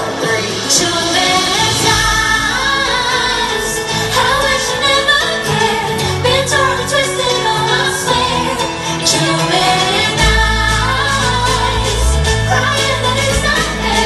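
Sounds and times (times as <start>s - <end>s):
live pop band playing: 0.0s - 14.0s
woman singing lead: 0.0s - 14.0s.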